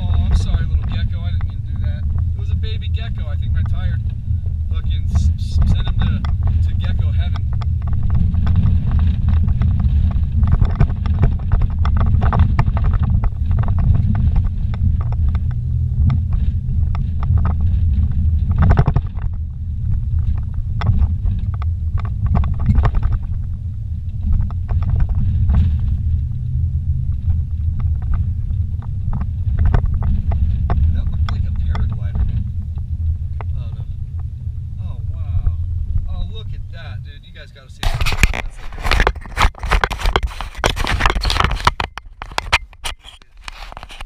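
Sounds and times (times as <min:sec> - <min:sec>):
short knocks and rattles: 0:00.0 - 0:26.4, 0:27.1 - 0:34.3, 0:37.8 - 0:44.0
vehicle engine and road rumble: 0:00.0 - 0:44.0.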